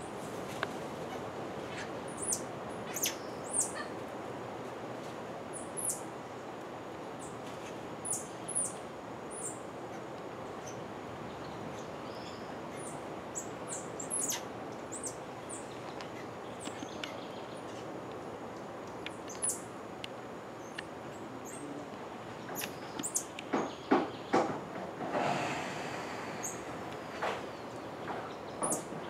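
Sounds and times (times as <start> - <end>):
steady forest hiss: 0.0 - 29.0.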